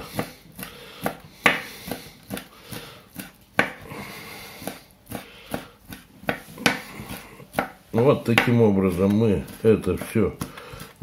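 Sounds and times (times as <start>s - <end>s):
knife chopping on cutting board: 0.0s - 11.0s.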